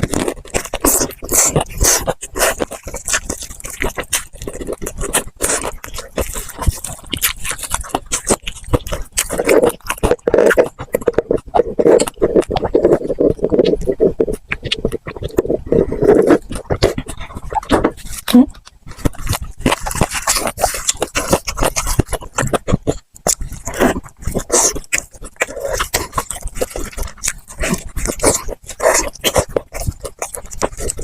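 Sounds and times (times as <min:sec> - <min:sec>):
chewing and wet mouth sounds: 0:00.0 - 0:31.0
crisp crunching of fried food: 0:00.0 - 0:31.0.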